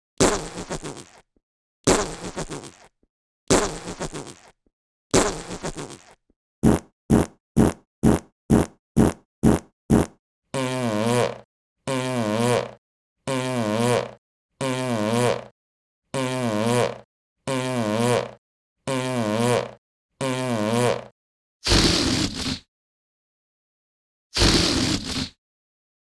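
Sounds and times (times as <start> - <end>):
fart sound effect: 0.2 - 1.2, 1.9 - 2.9, 3.5 - 15.5, 16.2 - 22.7, 24.4 - 25.4.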